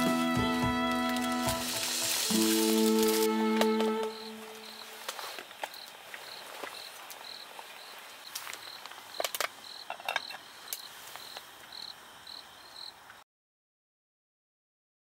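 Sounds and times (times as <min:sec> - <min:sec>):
insect chirping: 0:00.1 - 0:13.2.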